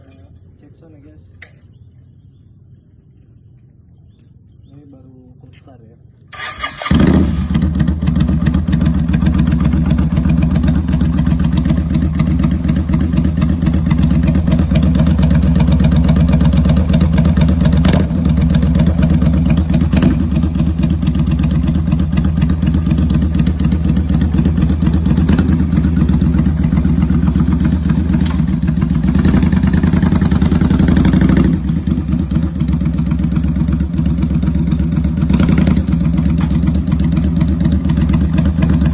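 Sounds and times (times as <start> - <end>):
motorcycle idling: 0.0 - 38.9.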